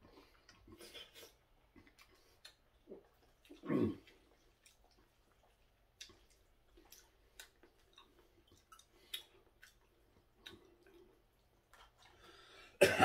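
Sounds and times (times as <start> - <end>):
chewing noodles: 0.0 - 12.5.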